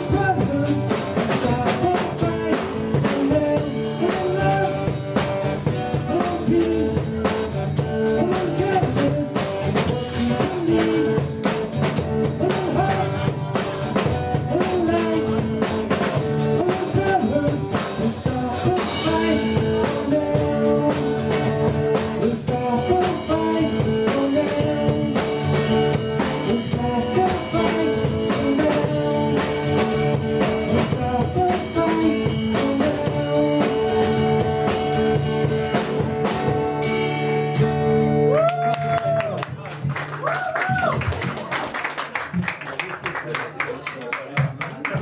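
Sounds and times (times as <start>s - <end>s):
acoustic guitars playing: 0.0s - 38.7s.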